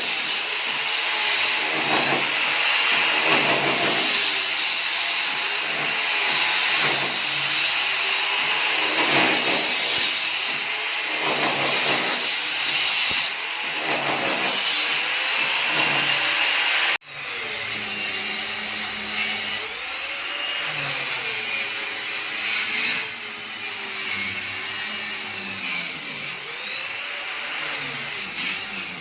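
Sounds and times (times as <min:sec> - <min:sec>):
power tool motor running: 0:00.0 - 0:29.0.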